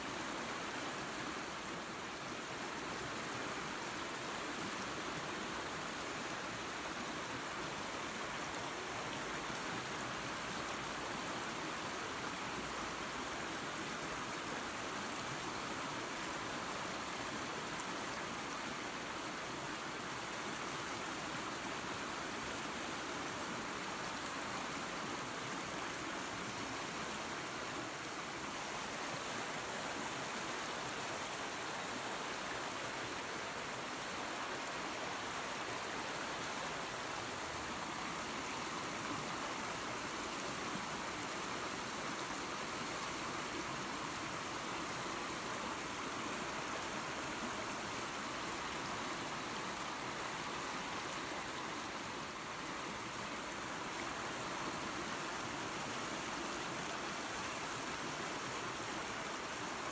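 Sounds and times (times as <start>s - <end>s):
small waterfall rushing: 0.0s - 59.9s.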